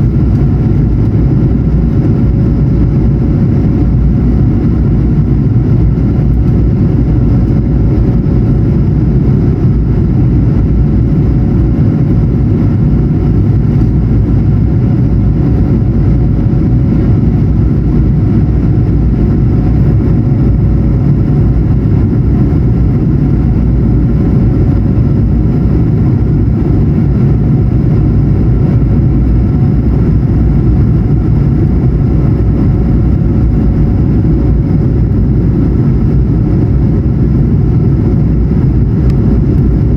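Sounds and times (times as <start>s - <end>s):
airflow rushing in aircraft cabin: 0.0s - 39.9s
jet engines humming: 0.0s - 39.9s.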